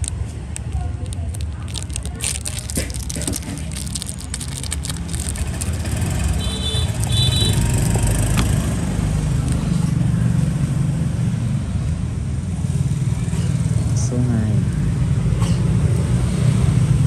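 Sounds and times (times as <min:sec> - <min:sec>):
engine rumble: 0:00.0 - 0:17.0.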